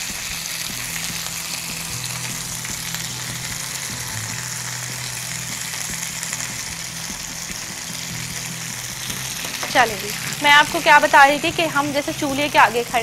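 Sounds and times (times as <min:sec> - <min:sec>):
chicken sizzling on a grill pan: 0:00.0 - 0:13.0.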